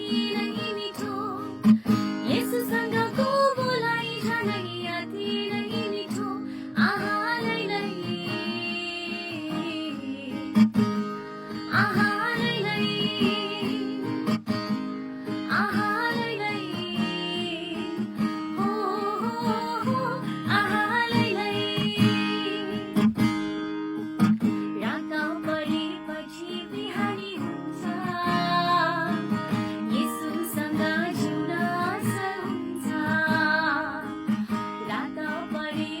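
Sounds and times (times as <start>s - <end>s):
strummed acoustic guitar: 0.0s - 36.0s.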